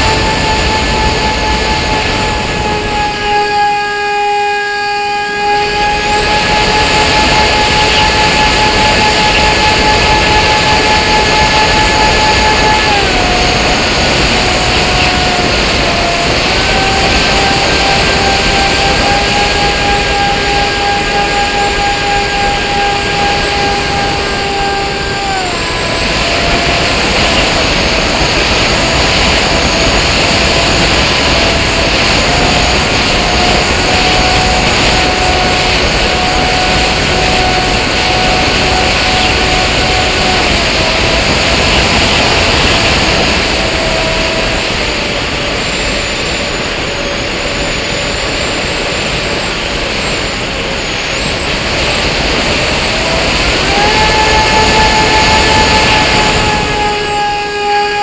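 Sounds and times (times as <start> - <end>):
model plane motor whine: 0.0 - 58.0
wind on microphone: 0.0 - 58.0.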